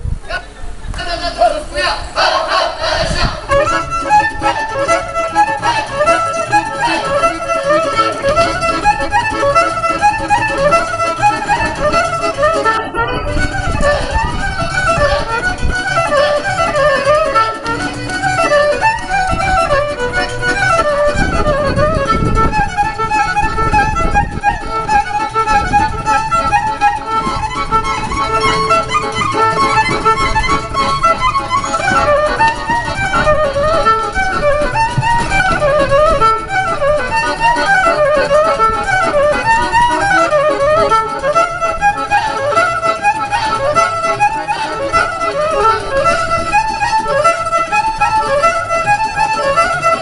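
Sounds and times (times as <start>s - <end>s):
fiddle playing dance tune: 0.9s - 50.0s
dull low thumps: 2.8s - 50.0s.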